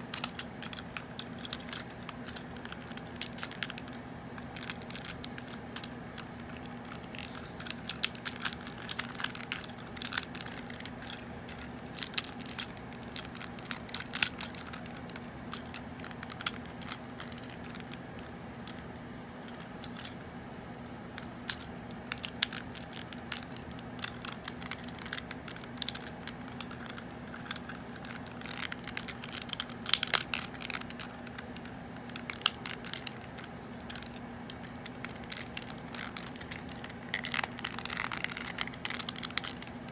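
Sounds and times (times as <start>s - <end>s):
plastic toy clicking and snapping: 0.0s - 18.8s, 21.2s - 39.7s
steady low hum: 0.0s - 39.9s.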